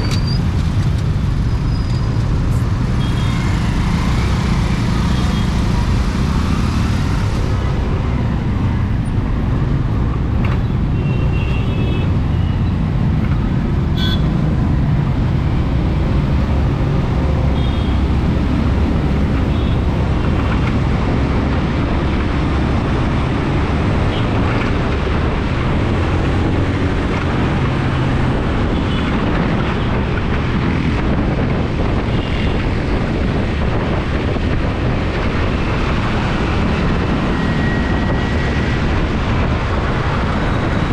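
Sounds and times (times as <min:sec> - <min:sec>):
city traffic: 0:00.0 - 0:40.9.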